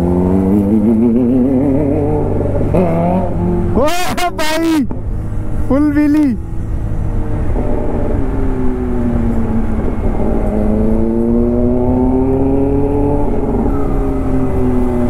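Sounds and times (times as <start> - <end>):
motorcycle engine revving: 0.0 - 4.3, 6.4 - 15.0
traffic rumble: 0.0 - 15.0.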